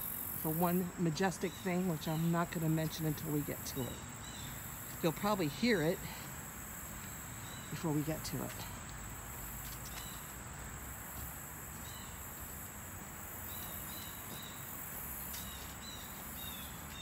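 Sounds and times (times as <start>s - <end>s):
background noise: 0.0s - 17.0s
crickets trilling: 0.0s - 17.0s.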